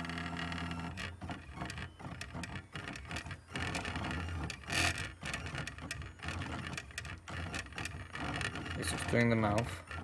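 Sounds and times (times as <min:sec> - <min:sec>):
stepper motors running: 0:00.0 - 0:10.0.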